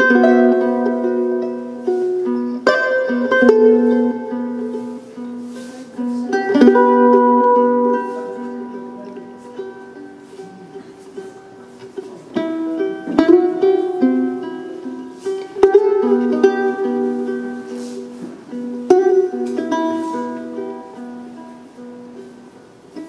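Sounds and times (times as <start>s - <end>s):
plucked string instrument melody: 0.0s - 23.0s.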